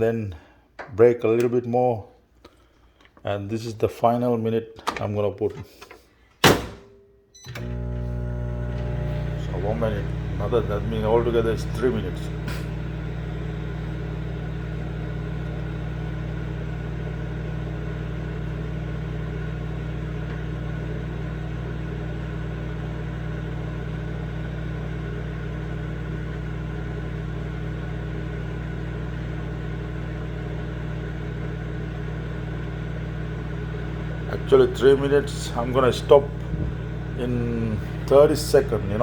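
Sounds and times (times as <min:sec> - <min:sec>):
microwave oven humming: 0:07.4 - 0:39.0.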